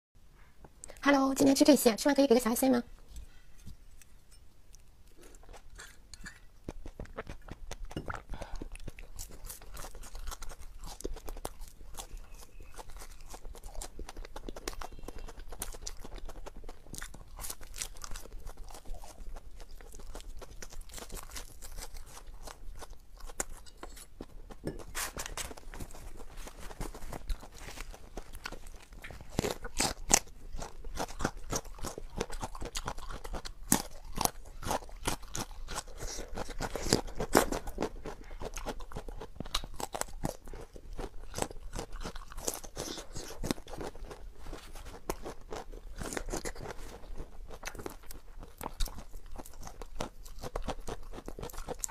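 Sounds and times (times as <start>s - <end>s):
person chewing and crunching food: 3.0s - 51.9s.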